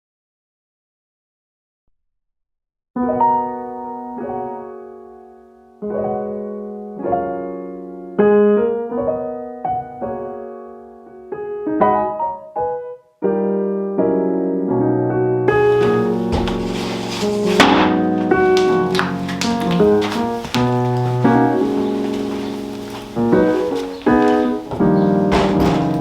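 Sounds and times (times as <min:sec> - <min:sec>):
slow piano chords: 0:03.0 - 0:26.0.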